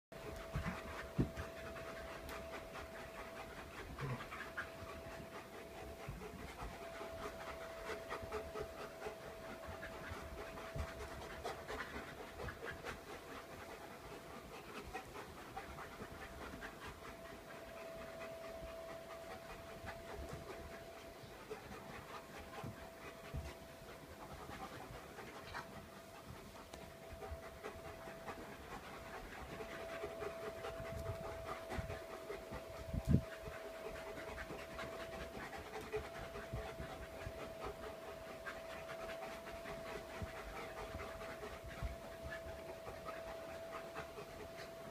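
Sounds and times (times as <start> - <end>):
dogs panting: 0.2 - 44.9
steady thin tone: 0.2 - 44.9.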